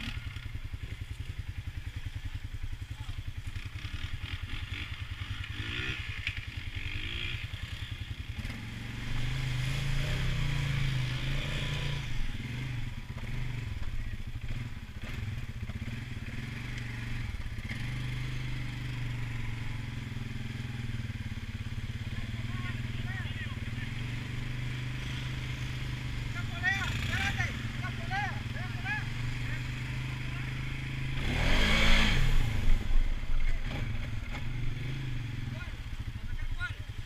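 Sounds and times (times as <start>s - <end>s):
quad bike engine revving: 0.0s - 37.0s.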